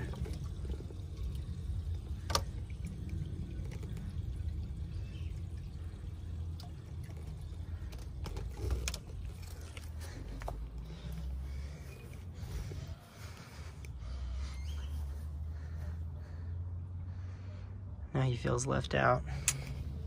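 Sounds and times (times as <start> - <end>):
faint trickling water: 0.0 - 16.4.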